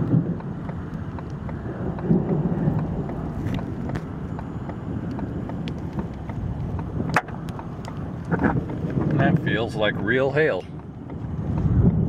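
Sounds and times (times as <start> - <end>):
hailstones striking: 0.0 - 12.0
wind rushing over microphone: 0.0 - 12.0.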